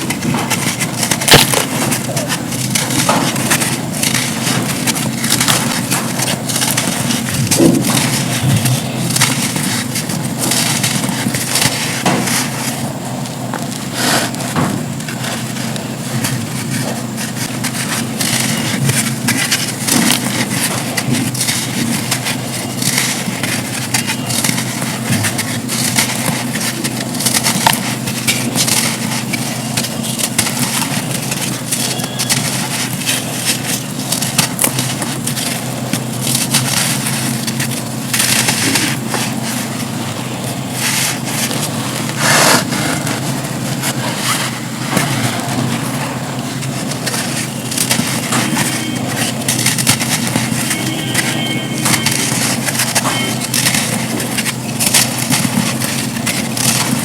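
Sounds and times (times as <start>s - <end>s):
sand slabs crumbling and crunching: 0.0s - 50.9s
steady low hum: 0.0s - 57.0s.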